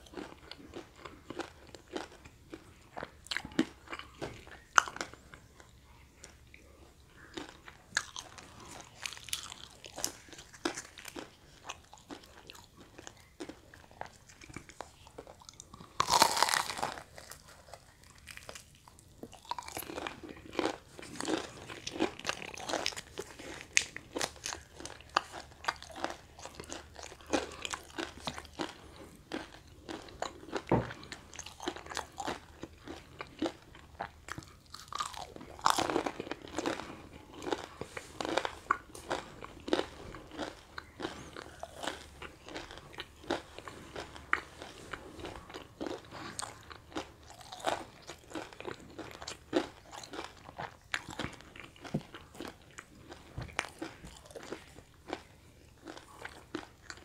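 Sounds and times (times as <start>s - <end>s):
crunching fried fritters: 0.0s - 57.0s
wet chewing: 0.0s - 57.0s.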